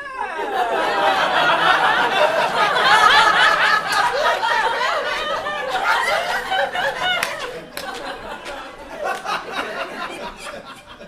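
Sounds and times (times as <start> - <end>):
audience laughing: 0.2 - 11.0.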